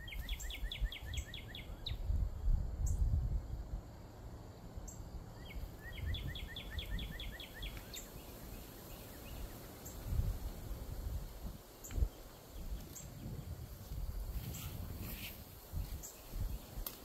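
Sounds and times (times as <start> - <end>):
wind rumble on microphone: 0.0 - 4.8, 5.5 - 17.0
songbird singing: 0.0 - 17.0.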